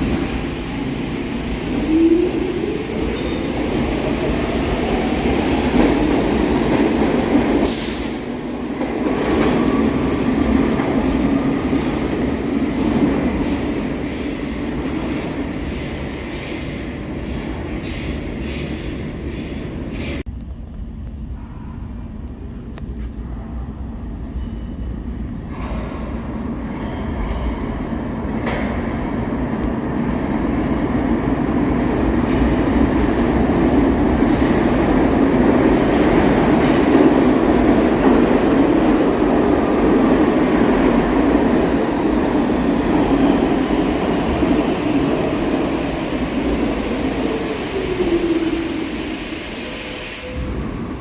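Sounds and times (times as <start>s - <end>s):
subway train on rails: 0.0s - 51.0s.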